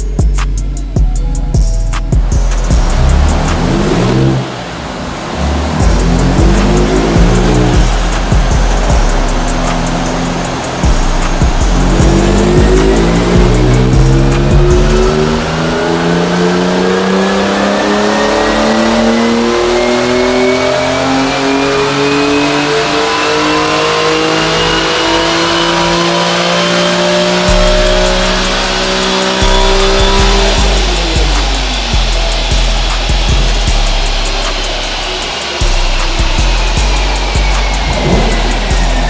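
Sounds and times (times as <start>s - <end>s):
car engine at full throttle: 0.0s - 39.0s.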